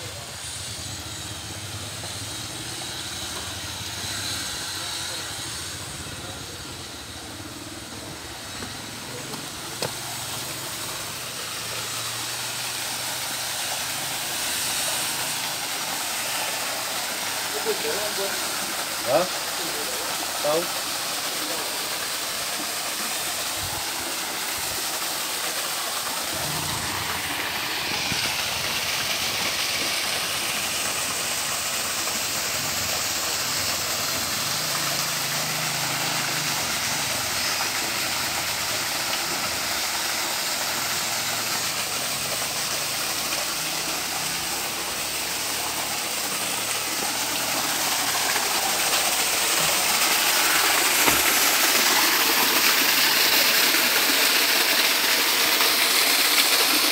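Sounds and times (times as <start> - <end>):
small waterfall splashing into pond: 0.0 - 56.9.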